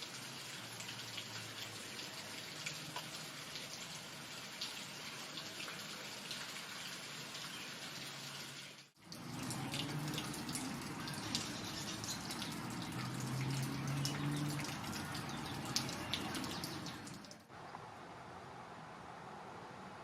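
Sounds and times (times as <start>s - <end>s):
water trickling and dripping: 0.0s - 17.8s.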